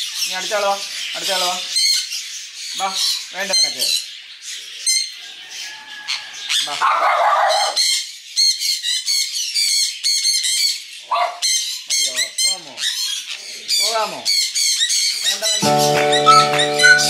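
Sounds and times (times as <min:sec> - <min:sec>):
parrots squawking: 0:00.2 - 0:17.0.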